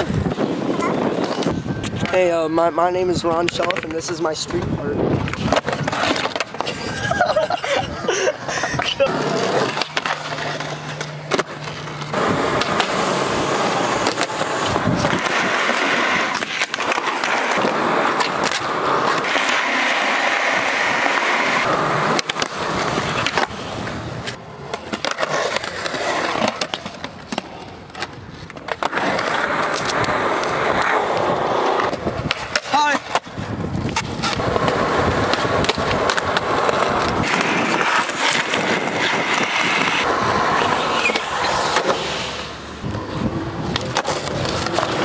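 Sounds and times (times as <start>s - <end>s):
skateboard clacking on ground: 0.0s - 7.5s, 8.7s - 45.0s
skateboard wheels rolling on concrete: 0.0s - 45.0s.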